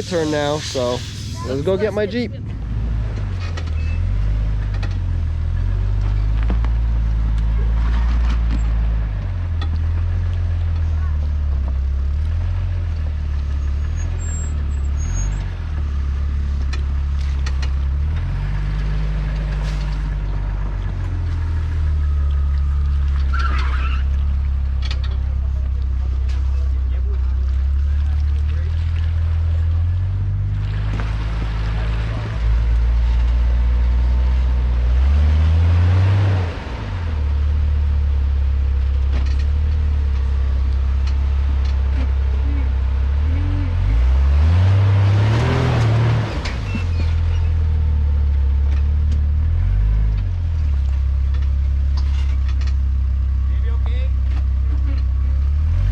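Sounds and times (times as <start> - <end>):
vehicle engine droning at low revs: 0.0 - 55.9.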